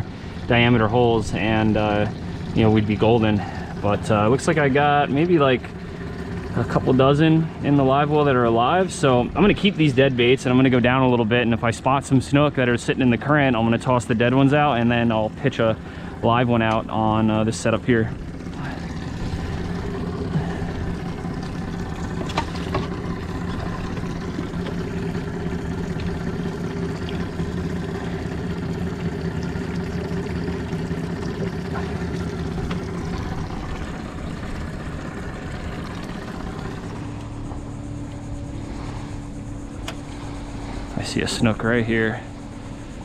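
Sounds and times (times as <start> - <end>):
boat motor humming: 0.0 - 43.0.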